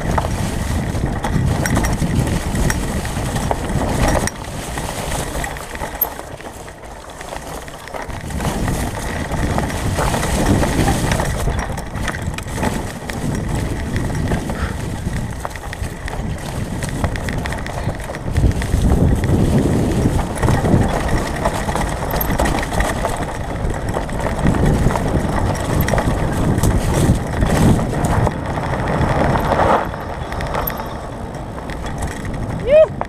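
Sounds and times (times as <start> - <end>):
bike knocking and rattling: 0.0 - 33.0
tyres rolling on dirt trail: 0.0 - 33.0
wind on microphone: 0.0 - 33.0.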